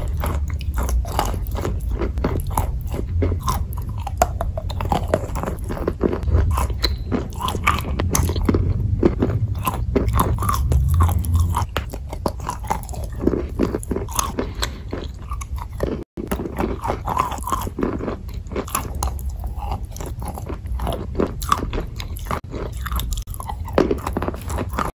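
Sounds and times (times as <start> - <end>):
chalk crunching while chewing: 0.0 - 24.9.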